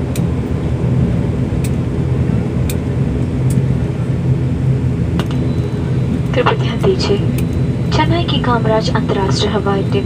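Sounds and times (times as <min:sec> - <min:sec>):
turboprop cabin drone: 0:00.0 - 0:10.0.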